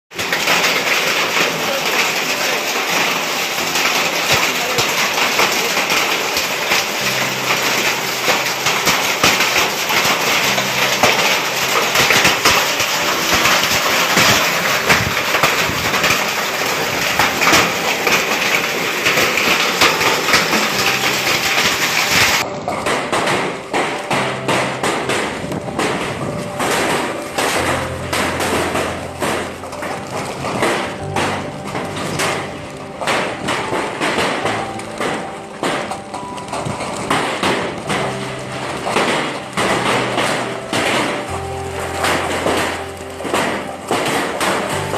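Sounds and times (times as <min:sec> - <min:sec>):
hail clattering on hard surfaces: 0:00.1 - 0:44.9
large hailstones knocking: 0:00.1 - 0:44.9.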